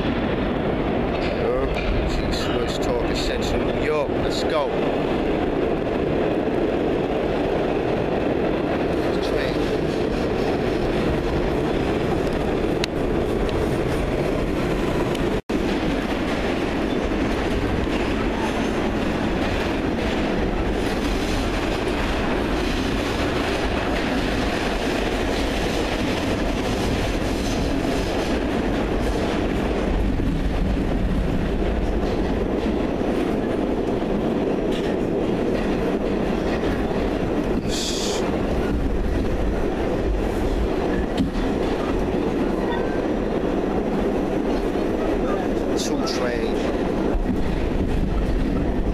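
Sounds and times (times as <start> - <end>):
train wheels rumbling: 0.0 - 48.9.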